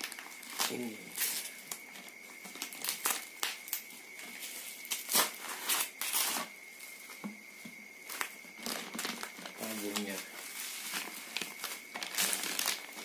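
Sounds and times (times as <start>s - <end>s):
plastic wrap crinkling and tearing: 0.0s - 6.5s, 8.1s - 13.0s.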